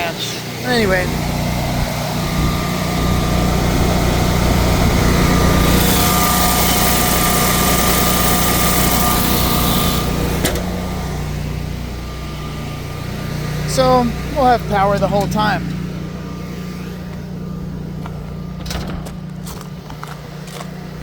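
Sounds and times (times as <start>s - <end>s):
generator engine hum: 0.0s - 21.0s.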